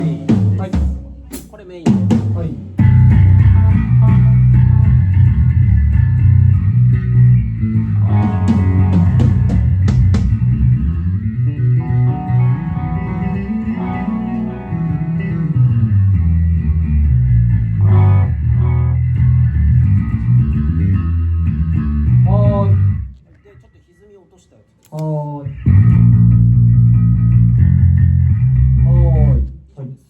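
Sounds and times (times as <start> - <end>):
electric bass notes: 2.7 - 23.2, 25.4 - 29.6.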